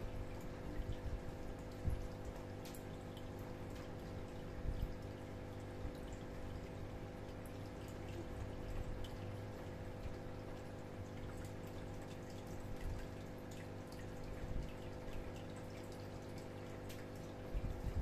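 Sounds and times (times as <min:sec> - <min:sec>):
aquarium pump humming: 0:00.0 - 0:18.0
water trickling and dripping: 0:00.0 - 0:18.0.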